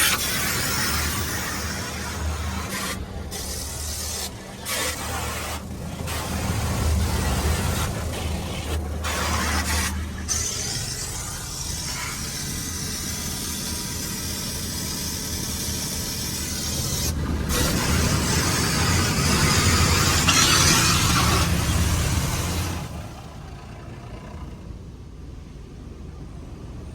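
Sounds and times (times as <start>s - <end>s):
water spray hissing on car: 0.0s - 24.0s.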